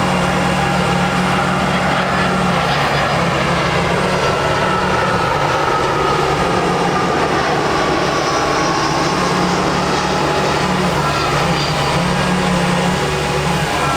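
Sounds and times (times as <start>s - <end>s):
diesel engine running: 0.0s - 13.9s
whine rising in pitch: 0.0s - 13.9s.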